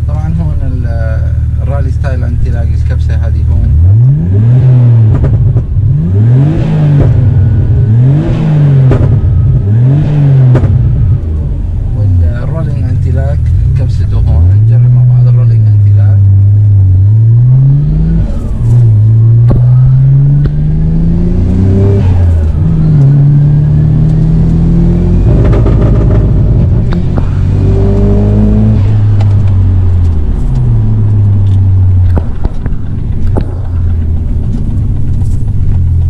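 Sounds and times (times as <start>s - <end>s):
car engine accelerating through gears: 2.5s - 36.0s.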